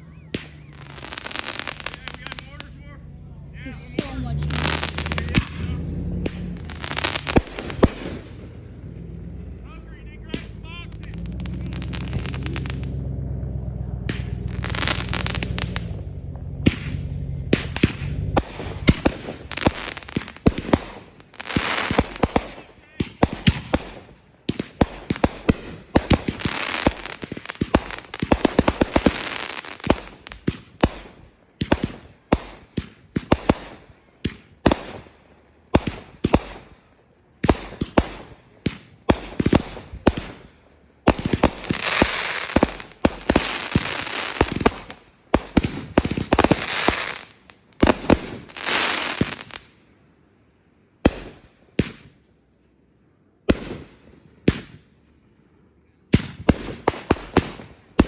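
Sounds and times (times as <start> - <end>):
fireworks bangs and crackling: 0.0 - 3.0, 3.6 - 49.9, 51.0 - 52.3, 53.4 - 55.0, 56.1 - 58.0.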